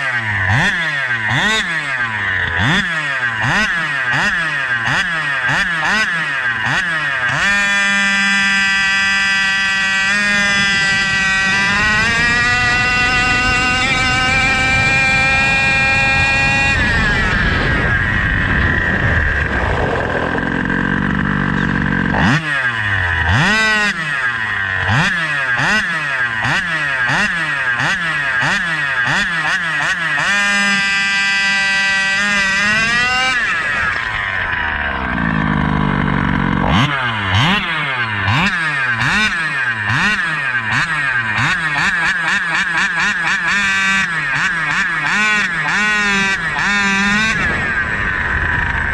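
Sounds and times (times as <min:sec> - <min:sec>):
small two-stroke engine revving: 0:00.0 - 0:48.9.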